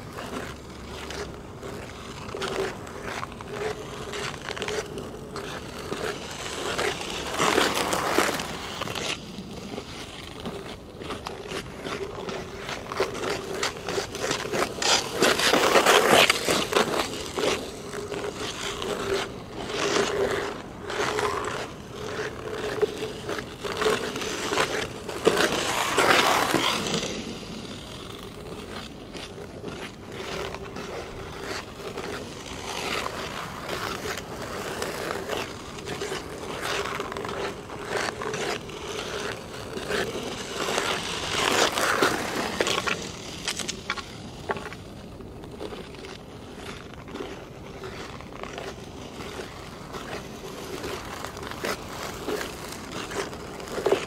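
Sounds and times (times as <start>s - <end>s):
ice skates scraping ice: 0.0s - 54.0s.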